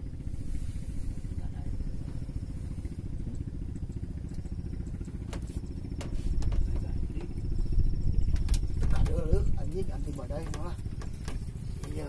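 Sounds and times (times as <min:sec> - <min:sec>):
motor pulsing rumble: 0:00.0 - 0:12.0.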